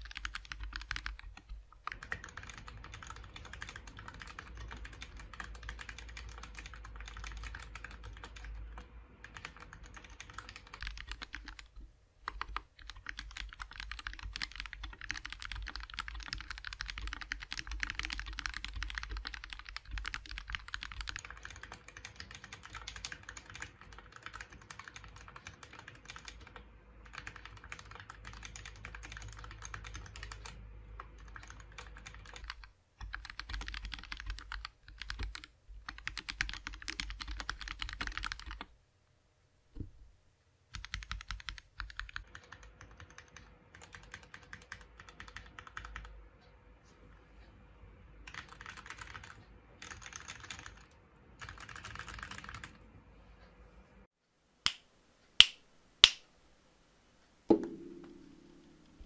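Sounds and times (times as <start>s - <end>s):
mechanical keyboard typing: 0.0s - 38.7s, 40.7s - 46.1s, 48.2s - 52.8s.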